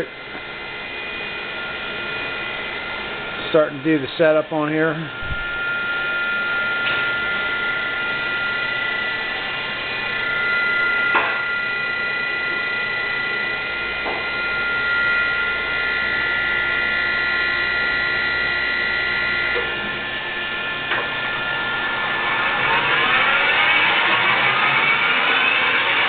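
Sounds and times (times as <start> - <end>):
high-pitched motor whine: 0.0 - 26.0
low hum: 0.0 - 26.0.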